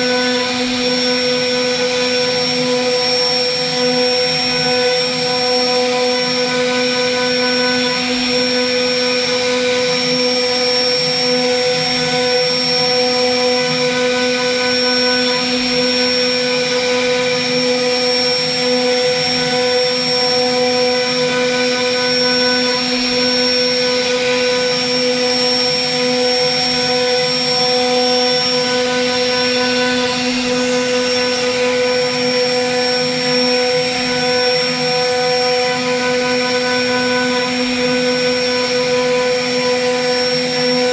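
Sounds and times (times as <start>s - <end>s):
bit cutting through wood: 0.0s - 40.9s
router spindle whine: 0.0s - 40.9s.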